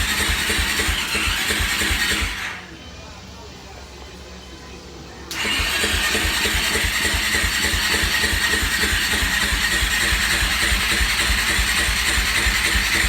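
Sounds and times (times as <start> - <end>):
engine cranking on starter: 0.0 - 2.9, 5.3 - 13.0.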